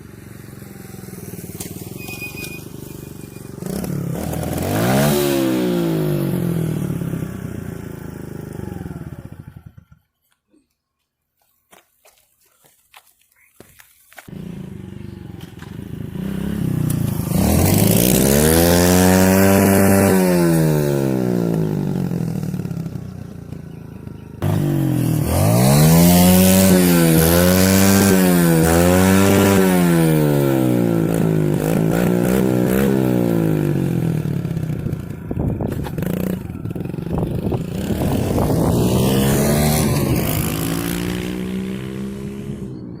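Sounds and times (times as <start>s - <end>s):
dirt bike engine revving: 0.0s - 10.0s, 14.2s - 43.0s.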